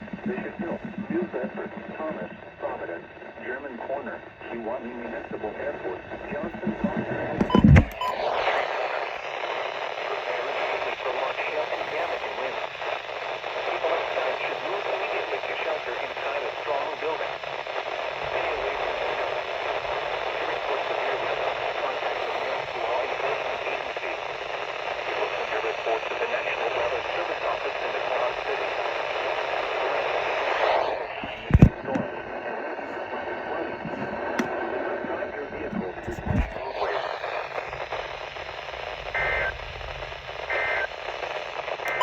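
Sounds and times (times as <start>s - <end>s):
radio static hiss: 0.0s - 42.0s.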